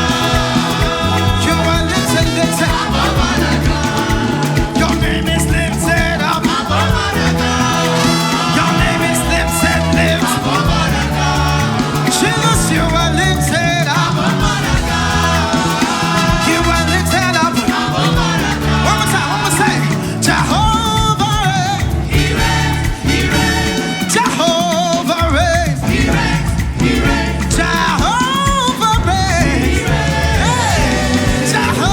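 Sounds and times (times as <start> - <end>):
live worship band playing: 0.0 - 31.9
voices singing along: 0.0 - 31.9.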